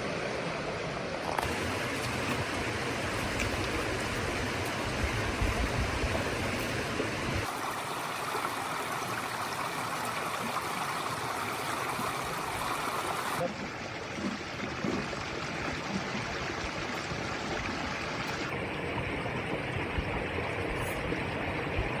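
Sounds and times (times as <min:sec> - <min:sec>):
heavy rain rushing water: 0:00.0 - 0:22.0.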